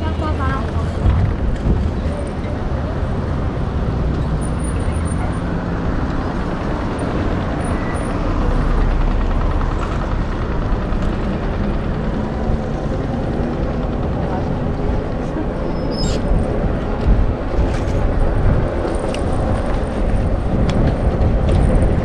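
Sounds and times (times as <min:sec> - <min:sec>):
city traffic: 0:00.0 - 0:22.0
road noise from bicycle: 0:00.0 - 0:22.0
wind rush: 0:00.3 - 0:04.4, 0:05.1 - 0:22.0.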